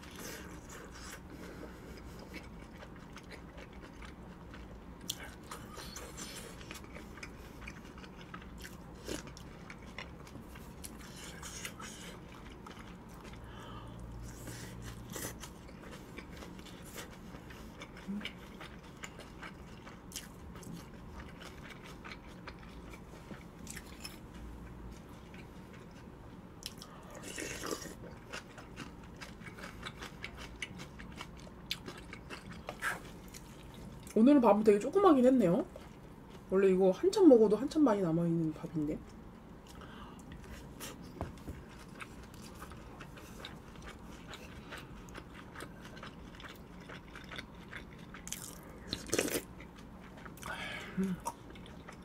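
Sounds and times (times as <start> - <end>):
person chewing food: 0.0 - 34.2, 35.7 - 36.5, 39.4 - 52.0.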